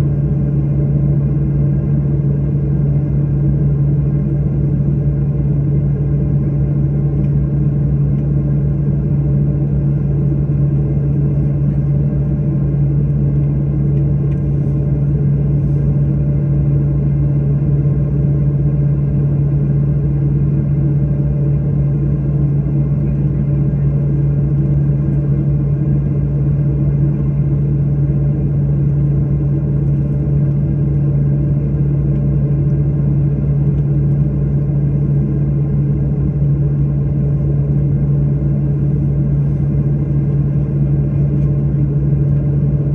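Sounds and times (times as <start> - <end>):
airliner cabin drone: 0.0 - 42.9.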